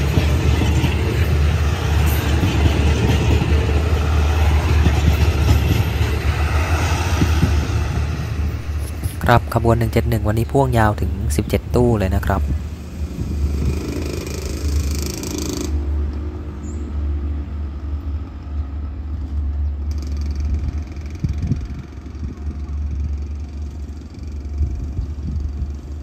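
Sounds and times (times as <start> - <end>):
passenger train rumbling: 0.0 - 26.0.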